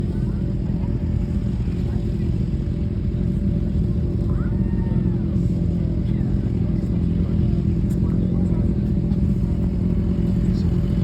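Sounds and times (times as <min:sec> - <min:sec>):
faint voices: 0:00.0 - 0:11.0
motorcycle engines running: 0:00.0 - 0:11.0.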